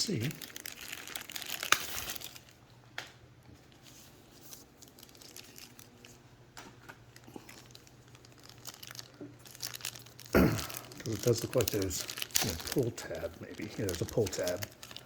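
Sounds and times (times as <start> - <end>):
plastic packaging crinkling: 0.0 - 2.7, 3.6 - 15.0.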